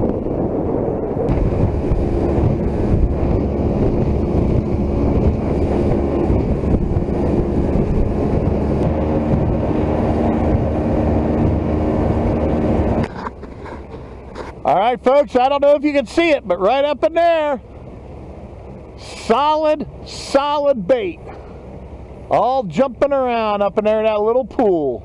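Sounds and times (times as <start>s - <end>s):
water rushing along hull: 0.0s - 25.0s
wind buffeting microphone: 0.0s - 25.0s
outboard motor running: 1.3s - 25.0s.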